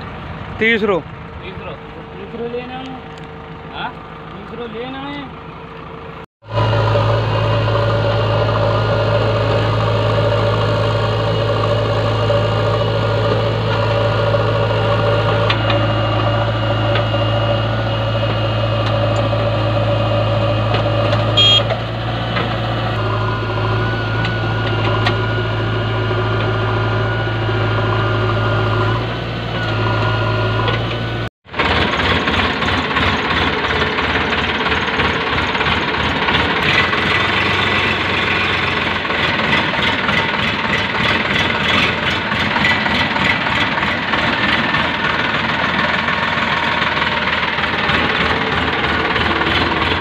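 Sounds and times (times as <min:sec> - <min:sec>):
diesel engines droning: 0:00.0 - 0:50.0.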